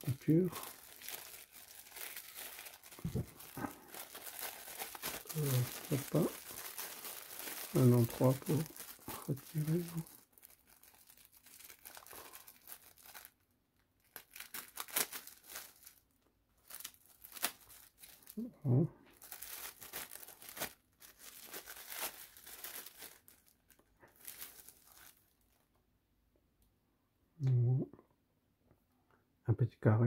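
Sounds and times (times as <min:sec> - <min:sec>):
plastic bag crinkling: 0:00.0 - 0:13.4, 0:14.0 - 0:18.4, 0:19.1 - 0:25.7.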